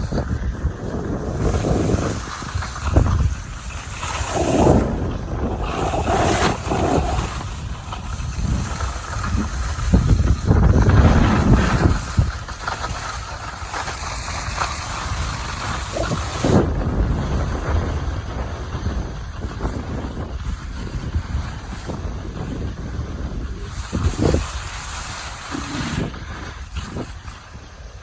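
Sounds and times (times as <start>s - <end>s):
wind buffeting microphone: 0.0s - 13.5s, 14.4s - 28.0s
skis scraping over snow: 0.0s - 28.0s.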